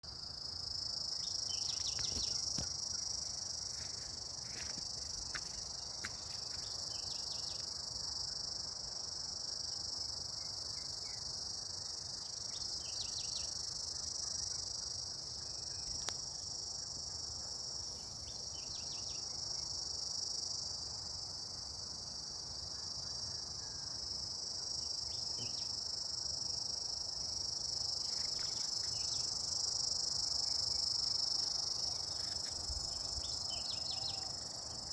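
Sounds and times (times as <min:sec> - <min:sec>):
high-pitched insect chorus: 0:00.0 - 0:34.9
insect chirps: 0:00.0 - 0:34.9.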